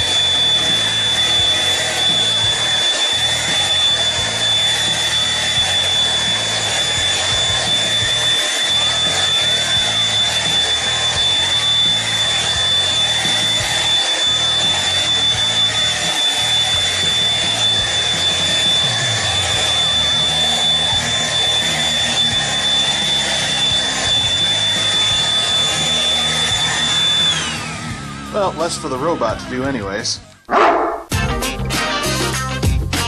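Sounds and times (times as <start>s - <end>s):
stick vacuum running: 0.0s - 29.8s.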